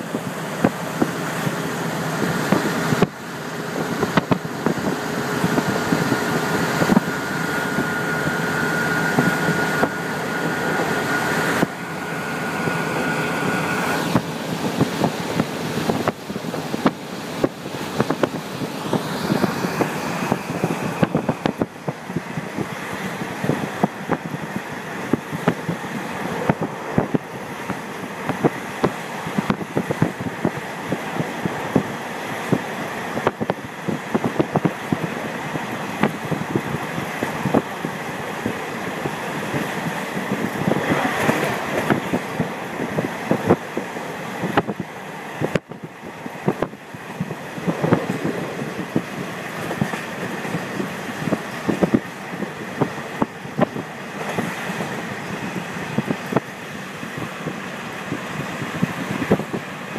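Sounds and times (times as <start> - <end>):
train wind and running noise: 0.0 - 59.9
wheels knocking and rattling: 0.0 - 59.9.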